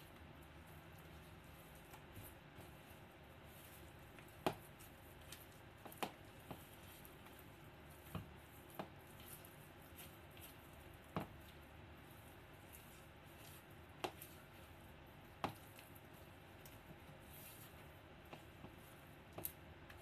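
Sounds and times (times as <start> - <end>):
spatula stirring cake batter: 0.0 - 20.0.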